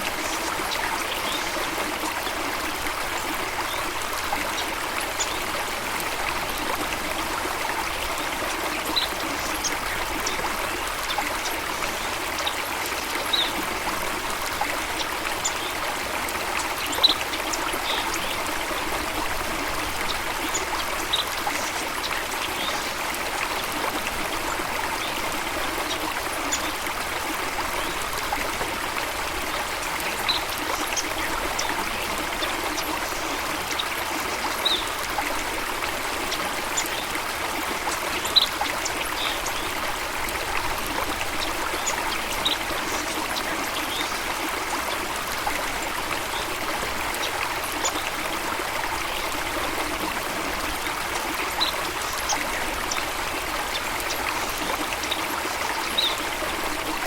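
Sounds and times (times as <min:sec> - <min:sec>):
water flowing in a stream: 0:00.0 - 0:57.0.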